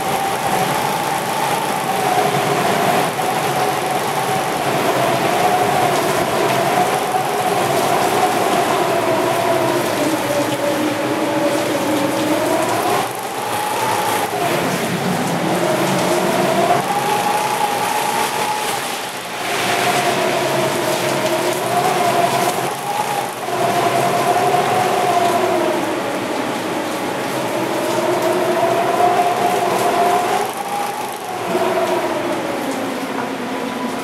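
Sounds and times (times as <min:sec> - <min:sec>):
wind whistling: 0:00.0 - 0:34.0.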